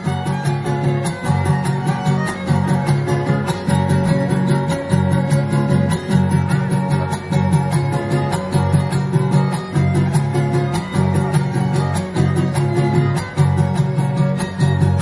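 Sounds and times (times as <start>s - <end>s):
strummed guitars: 0.0s - 15.0s
violin melody: 0.0s - 15.0s.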